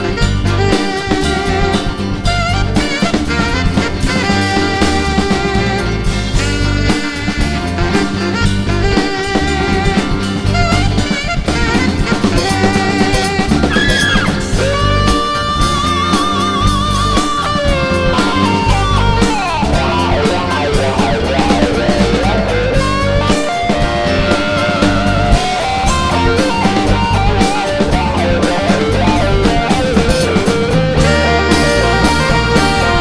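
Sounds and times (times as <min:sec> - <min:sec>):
drum kit groove: 0:00.0 - 0:33.0
electric bass: 0:00.0 - 0:33.0
electric guitar lead: 0:00.0 - 0:33.0.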